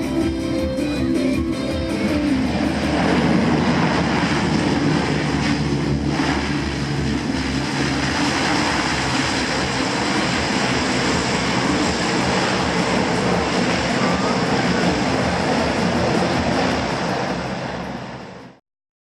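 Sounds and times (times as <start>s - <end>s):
turboprop engines running: 0.0s - 18.6s.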